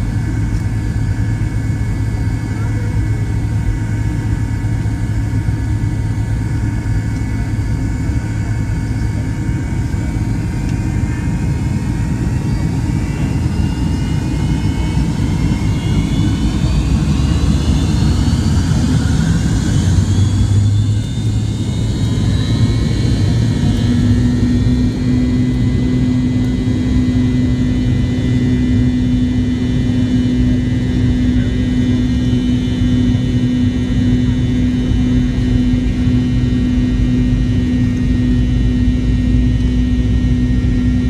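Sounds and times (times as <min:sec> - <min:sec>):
jet engine whine: 0:00.0 - 0:41.0
low hum: 0:00.0 - 0:41.0.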